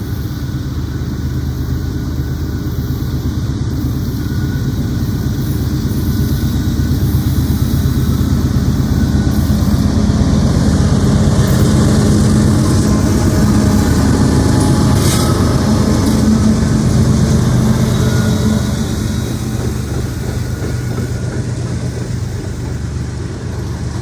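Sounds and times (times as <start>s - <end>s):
locomotive engines running: 0.0s - 24.0s.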